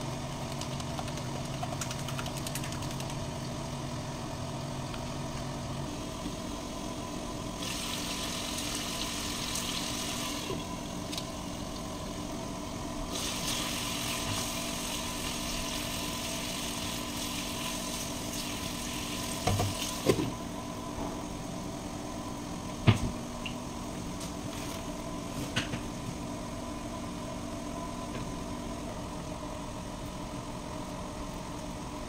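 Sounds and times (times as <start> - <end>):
fan hum: 0.0 - 32.0.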